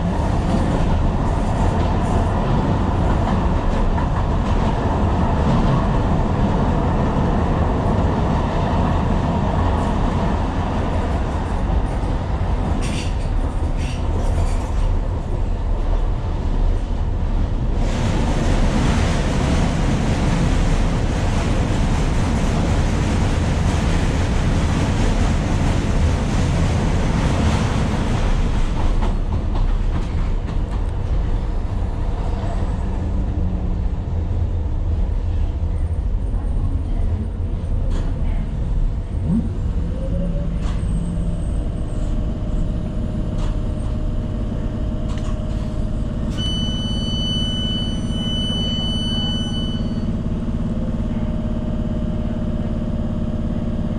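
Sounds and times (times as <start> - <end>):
train rumbling along track: 0.0 - 53.9.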